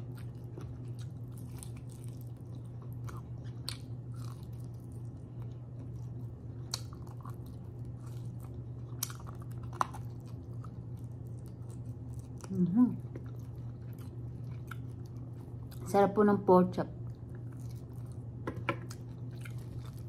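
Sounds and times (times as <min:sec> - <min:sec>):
chewing and biting meat: 0:00.0 - 0:15.8, 0:17.0 - 0:20.0
steady low hum: 0:00.0 - 0:20.0.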